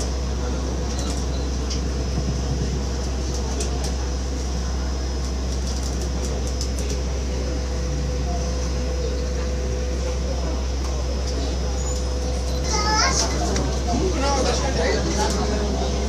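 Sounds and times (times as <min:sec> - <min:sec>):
monorail rumble: 0:00.0 - 0:16.0.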